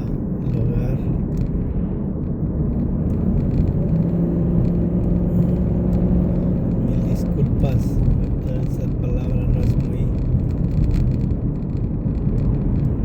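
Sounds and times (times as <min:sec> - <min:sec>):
engine hum: 0:00.0 - 0:13.0
road noise inside car: 0:00.0 - 0:13.0.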